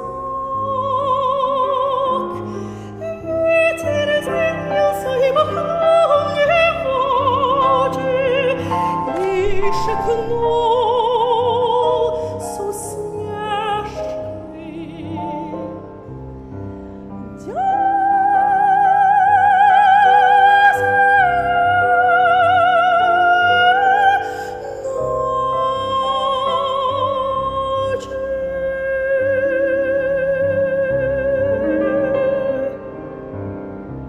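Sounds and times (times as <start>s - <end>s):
soprano singing with vibrato: 0.0s - 15.9s, 17.4s - 33.0s
piano accompaniment: 0.0s - 34.0s.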